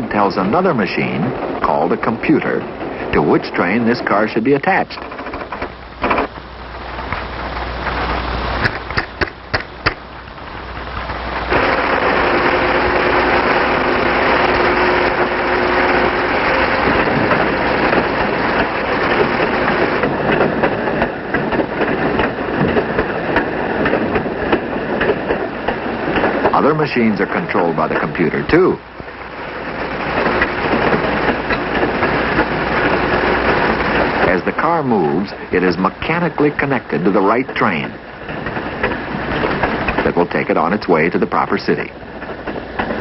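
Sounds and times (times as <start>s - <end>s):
freight car rolling on track: 0.0s - 43.0s.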